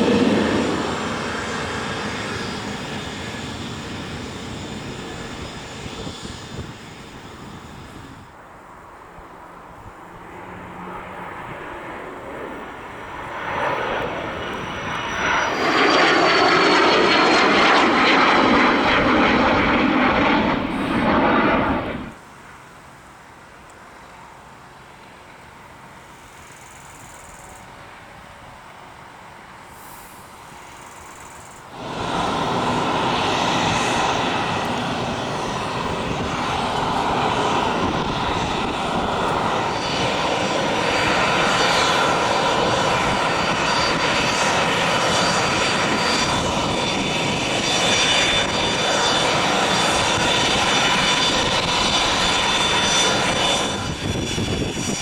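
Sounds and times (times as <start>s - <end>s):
jet engines whining: 0.0s - 8.4s, 10.0s - 22.2s, 31.5s - 55.0s
faint jet noise: 0.0s - 55.0s.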